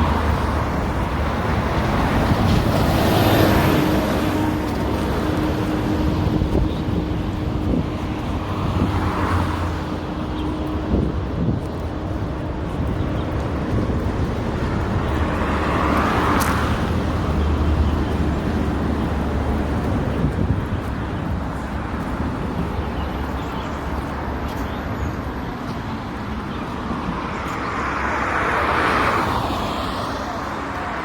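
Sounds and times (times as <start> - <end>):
road traffic hum: 0.0 - 31.0.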